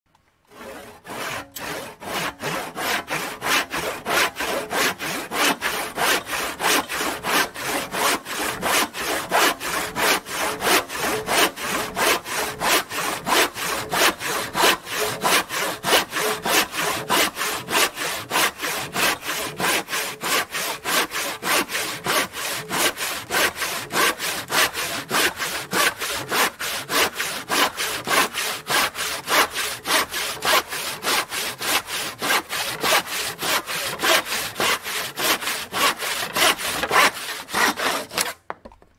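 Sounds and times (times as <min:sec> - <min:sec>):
hand saw cutting wood: 0:00.5 - 0:38.6.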